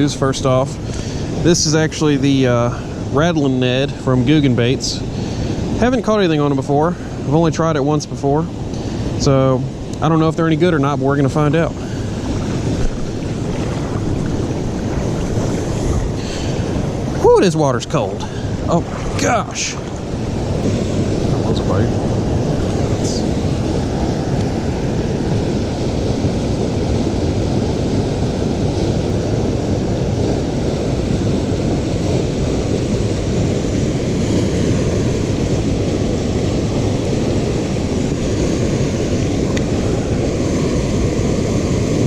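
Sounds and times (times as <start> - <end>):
fast-flowing river: 0.0 - 42.0
wind buffeting microphone: 0.0 - 42.0.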